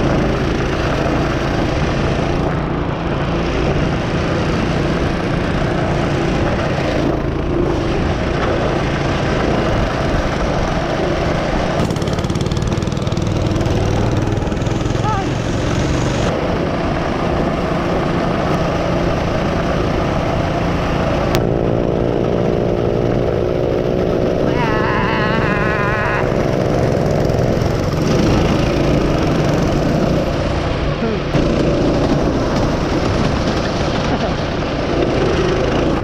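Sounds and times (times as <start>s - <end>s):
heavy low rumble: 0.0s - 36.0s
small engine running: 0.0s - 36.0s.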